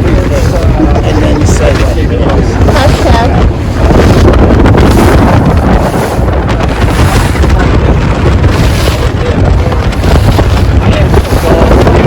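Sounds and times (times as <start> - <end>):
speedboat engine: 0.0 - 12.0
water rushing: 0.0 - 12.0
wind buffeting microphone: 0.0 - 12.0.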